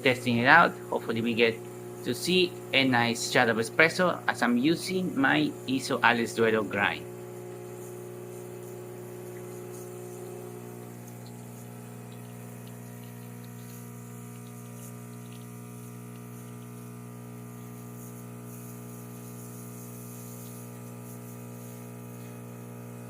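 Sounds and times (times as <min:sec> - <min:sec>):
espresso machine pump buzzing: 0:00.0 - 0:23.0.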